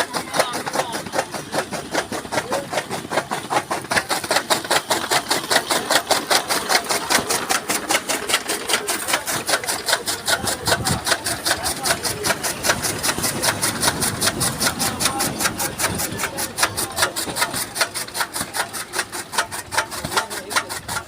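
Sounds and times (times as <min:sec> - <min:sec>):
chaff cutter chopping stalks: 0:00.0 - 0:21.0.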